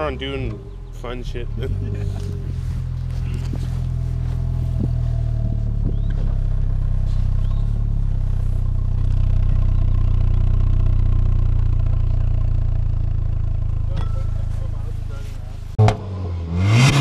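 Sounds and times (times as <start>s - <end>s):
truck engine running: 0.0s - 15.8s.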